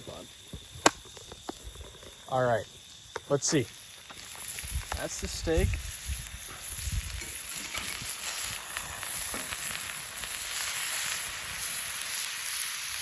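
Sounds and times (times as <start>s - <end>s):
fire crackles and pops: 0.0s - 13.0s
steak sizzling over fire: 0.0s - 13.0s.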